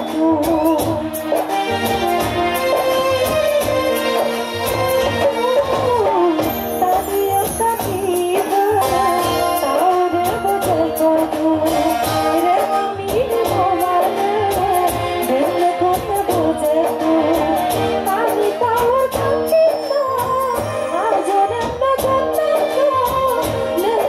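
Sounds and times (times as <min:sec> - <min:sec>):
woman singing into a microphone: 0:00.0 - 0:04.2, 0:05.0 - 0:24.0
band playing: 0:00.0 - 0:24.0
drums keeping a steady beat: 0:00.0 - 0:24.0.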